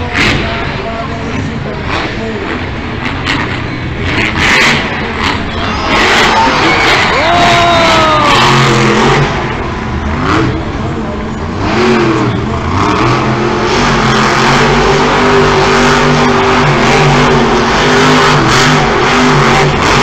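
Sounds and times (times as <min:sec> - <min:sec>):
truck engine revving hard: 0:00.0 - 0:20.0.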